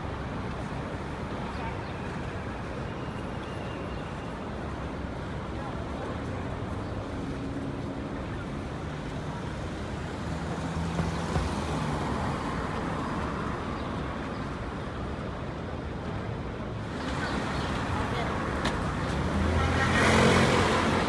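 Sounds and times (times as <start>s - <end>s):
cars and trucks on busy street: 0.0s - 21.0s.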